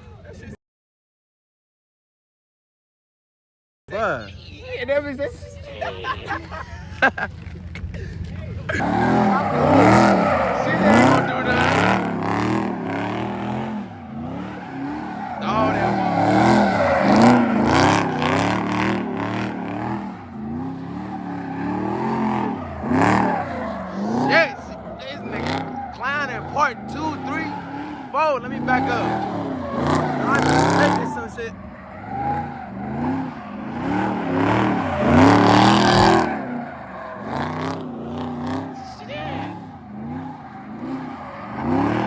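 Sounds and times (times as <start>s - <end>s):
car engine revving: 7.0s - 42.0s.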